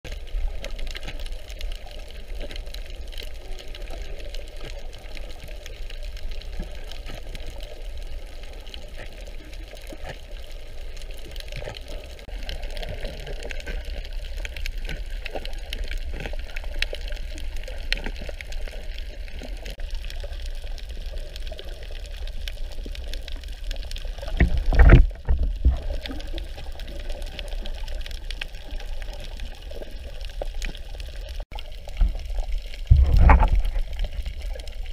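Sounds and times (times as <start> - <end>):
low burst of water noise: 0.1 - 34.9
underwater water wash: 0.1 - 34.9.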